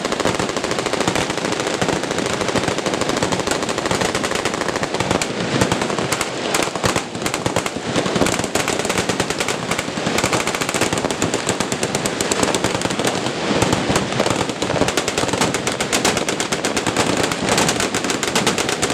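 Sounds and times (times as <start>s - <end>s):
machine guns firing: 0.0s - 18.9s.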